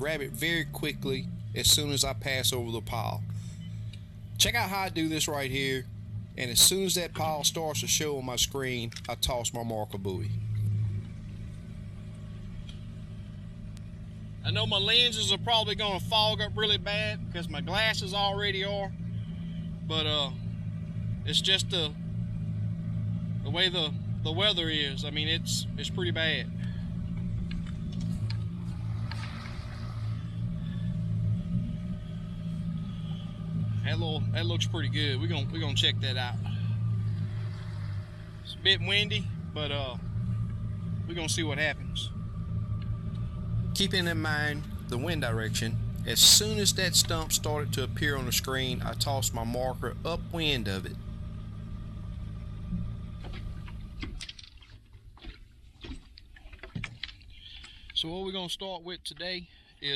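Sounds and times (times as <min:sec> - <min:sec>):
boat motor humming: 0:00.0 - 0:58.6.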